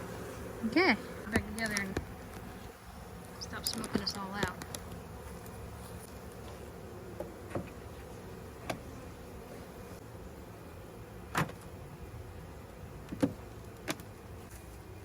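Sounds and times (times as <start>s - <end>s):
honeybees buzzing around hive: 0.0s - 15.0s.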